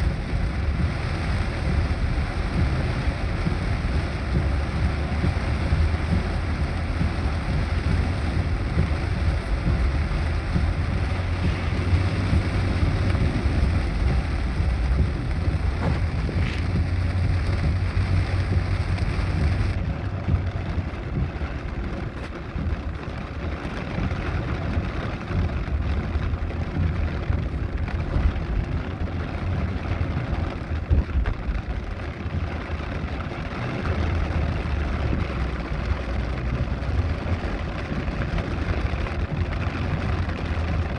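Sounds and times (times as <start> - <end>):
heavy rain falling: 0.0 - 40.9
low vehicle rumble: 0.0 - 40.9.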